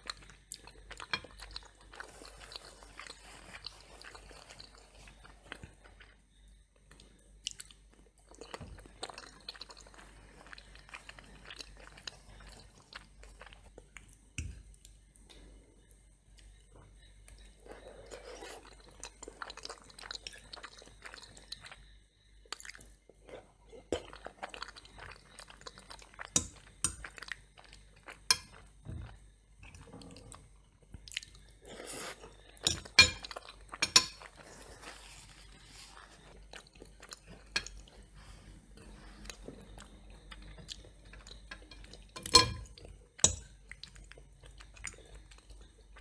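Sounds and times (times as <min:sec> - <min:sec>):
chewing crunchy food: 0:00.0 - 0:46.0.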